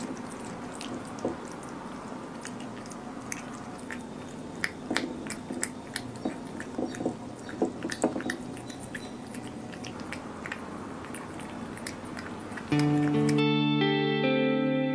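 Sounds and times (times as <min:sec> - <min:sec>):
cat chewing raw meat: 0:00.0 - 0:13.5.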